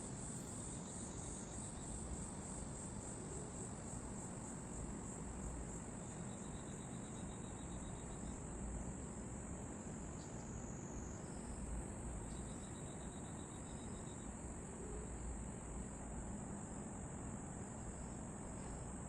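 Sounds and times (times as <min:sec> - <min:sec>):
insects trilling: 0:00.0 - 0:16.1
cricket chirps: 0:00.0 - 0:19.0.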